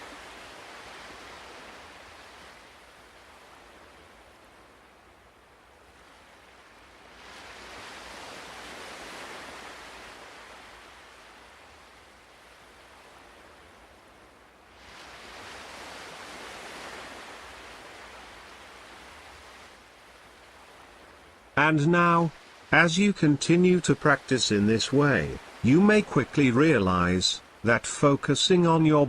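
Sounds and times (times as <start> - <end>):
ocean waves breaking: 0.0 - 29.0.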